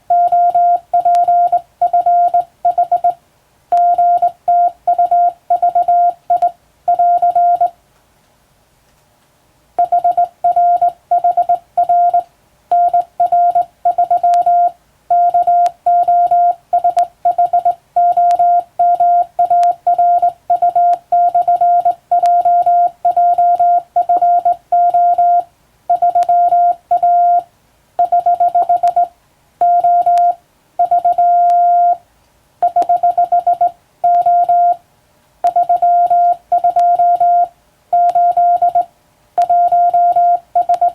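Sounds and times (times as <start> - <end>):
morse code beeps: 0.1 - 7.7, 9.8 - 32.0, 32.6 - 34.8, 35.4 - 40.9.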